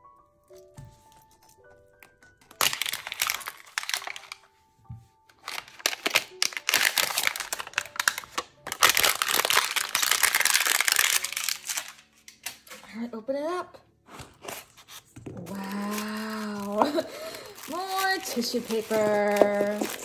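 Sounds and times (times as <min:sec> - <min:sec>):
packaging crinkling and tearing: 0:00.5 - 0:04.6, 0:05.3 - 0:12.8, 0:14.2 - 0:20.0.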